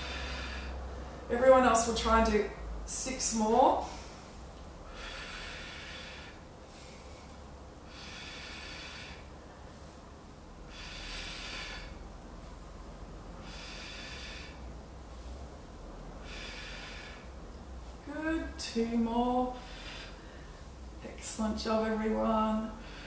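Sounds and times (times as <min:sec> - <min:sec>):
woman breathing rhythmically: 0:00.0 - 0:01.6, 0:02.5 - 0:23.0.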